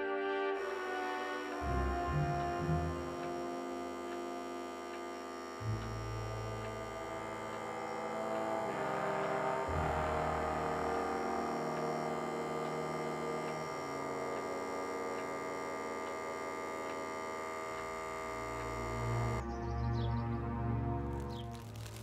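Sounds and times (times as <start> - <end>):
faint regular ticks: 0.6 - 19.4, 21.2 - 22.0
stairlift motor humming: 0.6 - 19.4.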